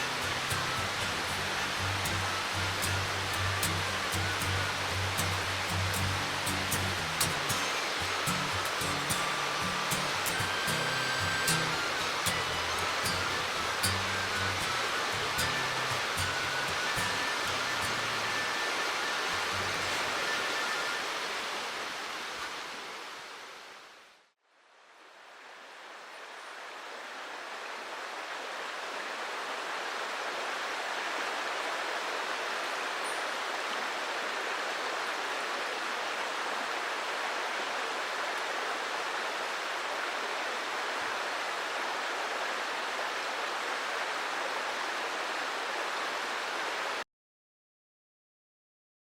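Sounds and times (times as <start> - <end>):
mountain stream rushing: 0.0 - 24.2, 24.9 - 47.0.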